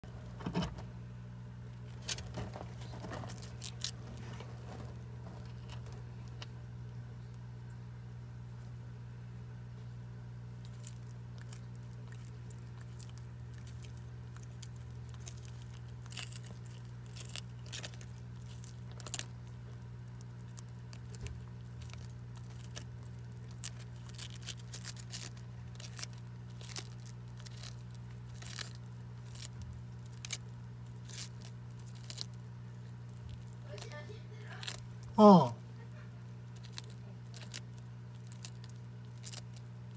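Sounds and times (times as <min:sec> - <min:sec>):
low hum: 0:00.0 - 0:39.9
tortoise crunching a leaf: 0:01.6 - 0:07.4, 0:10.0 - 0:39.9.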